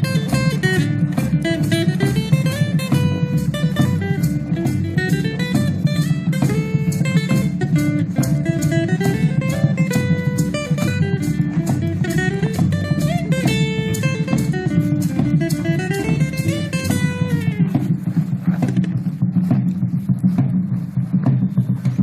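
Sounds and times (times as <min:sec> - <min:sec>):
quick drum beat: 0:00.0 - 0:22.0
strummed guitars: 0:00.0 - 0:22.0.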